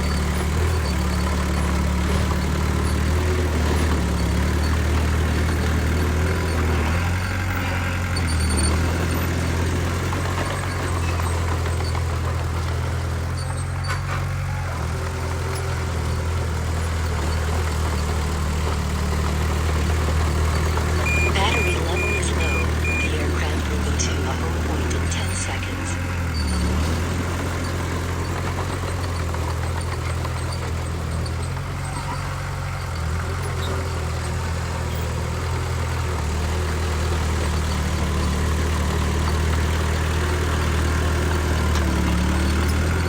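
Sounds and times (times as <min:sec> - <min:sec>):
diesel engine running at low revs: 0:00.0 - 0:43.0.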